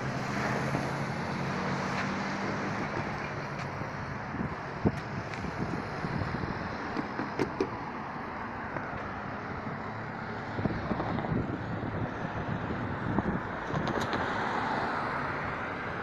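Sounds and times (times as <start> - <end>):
cars driving by: 0.0 - 16.0.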